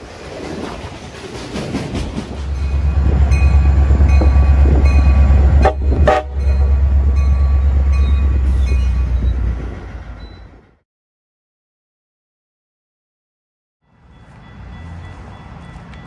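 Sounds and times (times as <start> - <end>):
train rumbling past: 0.0 - 10.8, 13.8 - 16.0.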